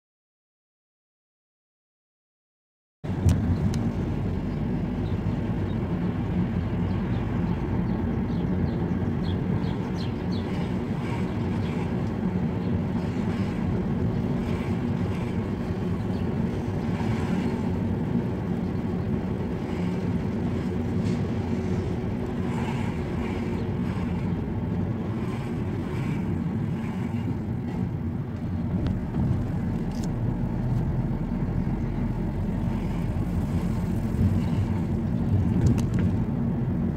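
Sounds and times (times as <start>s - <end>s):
car engine and road noise: 3.0s - 36.9s.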